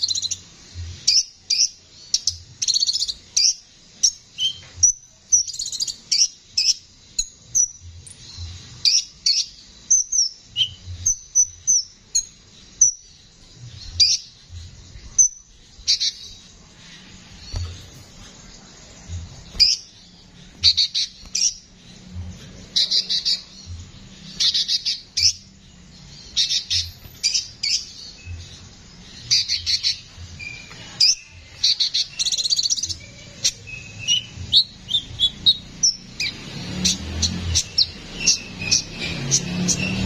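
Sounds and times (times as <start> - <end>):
sunbird singing: 0.0 - 40.0.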